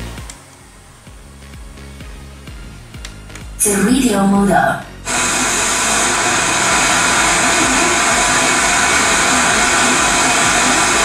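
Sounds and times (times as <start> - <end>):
amplifier static hiss: 0.0 - 11.0.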